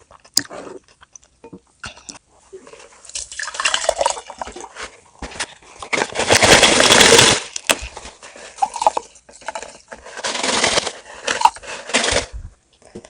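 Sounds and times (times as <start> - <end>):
eating and crunching: 0.0 - 13.0.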